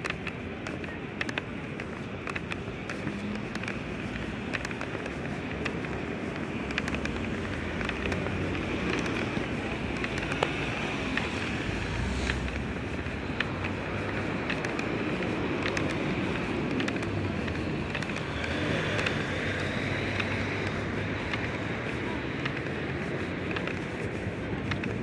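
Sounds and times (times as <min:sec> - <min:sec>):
footsteps clicking: 0:00.0 - 0:25.0
traffic noise: 0:00.0 - 0:25.0.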